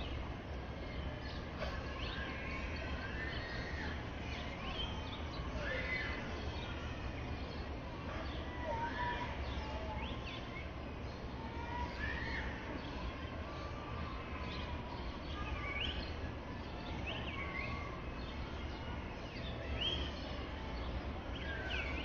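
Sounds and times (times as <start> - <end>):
open-air murmur: 0.0 - 22.0.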